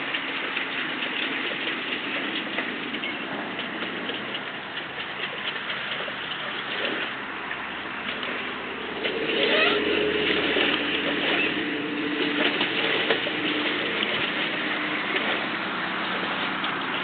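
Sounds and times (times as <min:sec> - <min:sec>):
water churning and splashing: 0:00.0 - 0:17.0.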